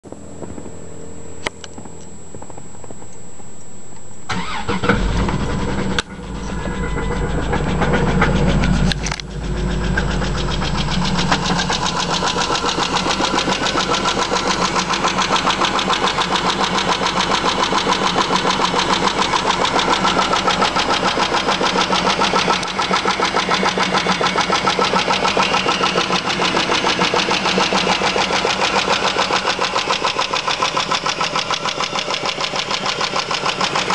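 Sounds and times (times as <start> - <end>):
car engine cold start: 4.3 - 33.9
engine idling with ticking: 4.3 - 33.9.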